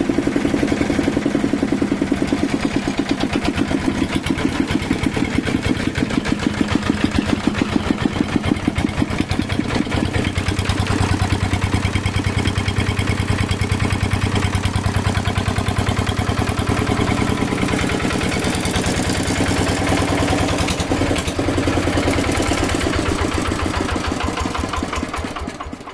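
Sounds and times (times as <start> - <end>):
tractor engine idling: 0.0 - 25.9.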